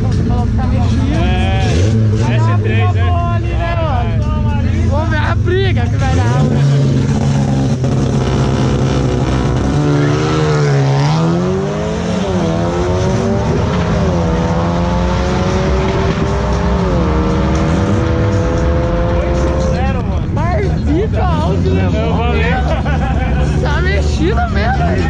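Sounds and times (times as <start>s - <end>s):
drag racing car engine accelerating: 0.0s - 2.9s, 4.7s - 25.0s.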